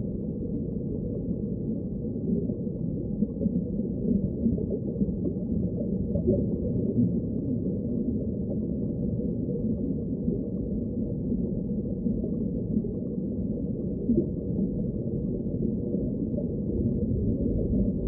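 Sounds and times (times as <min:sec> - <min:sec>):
muffled ocean waves: 0:00.0 - 0:18.0.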